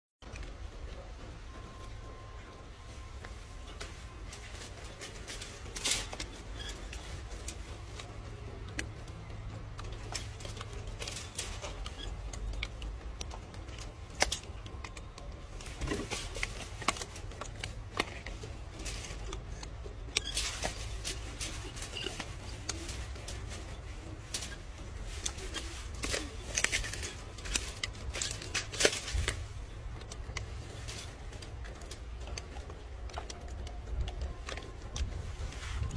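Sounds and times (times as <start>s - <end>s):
leek stalk crackling: 3.0s - 35.9s.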